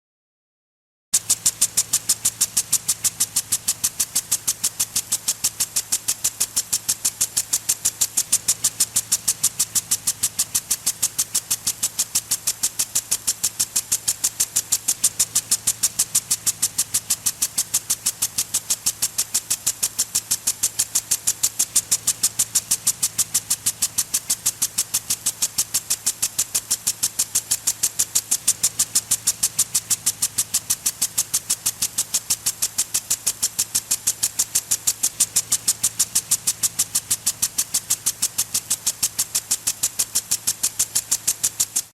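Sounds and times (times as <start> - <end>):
sprinkler spraying in hissing pulses: 1.2 - 41.9.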